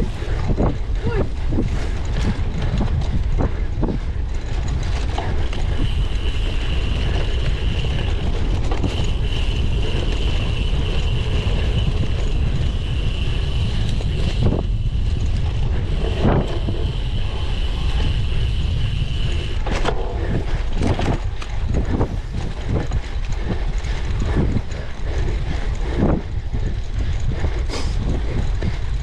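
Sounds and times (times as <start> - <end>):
high whine from bike: 0.0 - 29.0
wind rumble on microphone: 0.0 - 29.0.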